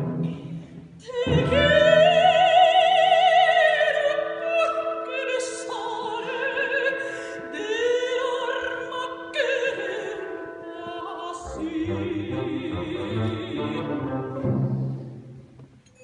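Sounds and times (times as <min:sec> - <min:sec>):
orchestra: 0:00.0 - 0:16.0
operatic soprano singing: 0:01.0 - 0:14.4.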